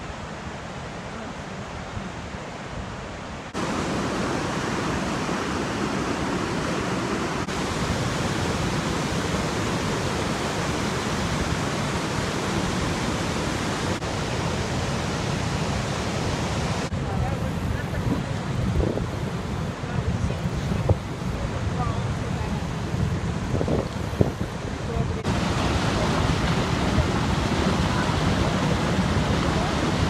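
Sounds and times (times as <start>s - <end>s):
river rapids rushing: 0.0s - 23.5s, 24.1s - 30.0s.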